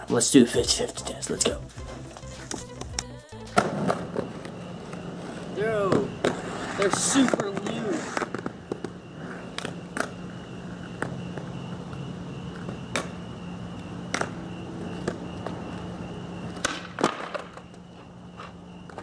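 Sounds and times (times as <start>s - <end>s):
faint steady hum: 0.0s - 19.0s
skateboard clicks and knocks: 2.2s - 13.2s, 14.1s - 19.0s.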